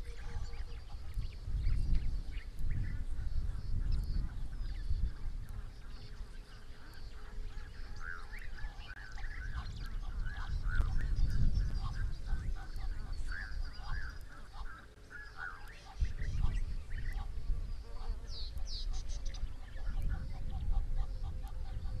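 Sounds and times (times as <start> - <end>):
wild birds chirping: 0.0 - 22.0.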